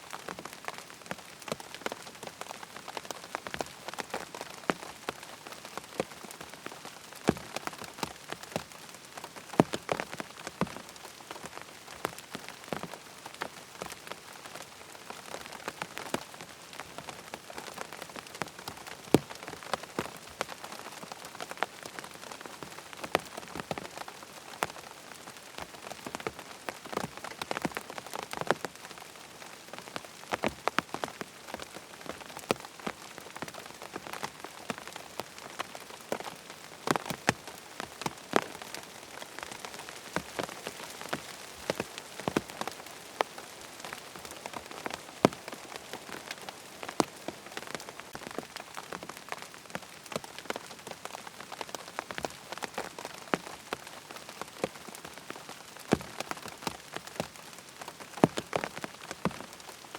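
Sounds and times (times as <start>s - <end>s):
rain on tent fabric: 0.0s - 59.9s.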